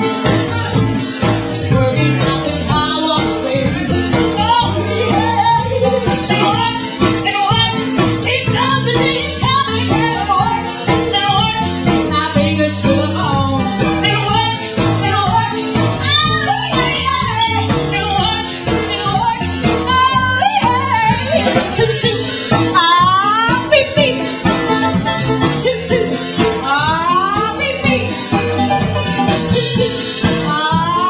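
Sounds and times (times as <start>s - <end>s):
drum kit with cymbals: 0.0s - 31.0s
upright bass: 0.0s - 31.0s
woman singing: 0.0s - 31.0s.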